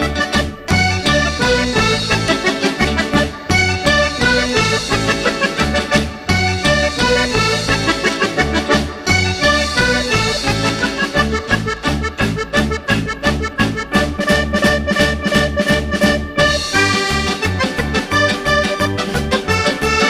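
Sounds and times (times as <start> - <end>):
upbeat background music: 0.0 - 20.0.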